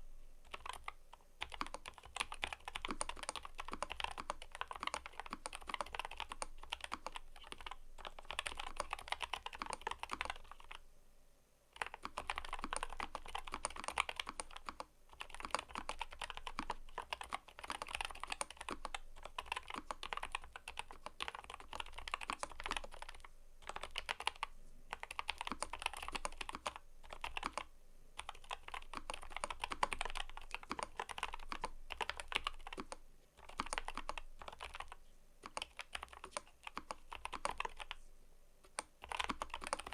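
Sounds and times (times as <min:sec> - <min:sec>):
typing on mechanical keyboard: 0:00.4 - 0:10.8, 0:11.8 - 0:38.0, 0:38.6 - 0:39.9.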